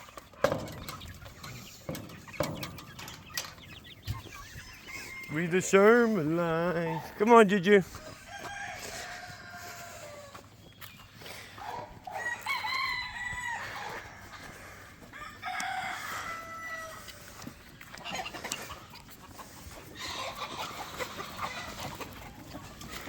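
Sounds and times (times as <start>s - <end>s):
roosters crowing: 0.0s - 18.9s, 19.8s - 23.0s
chickens clucking: 0.0s - 23.0s.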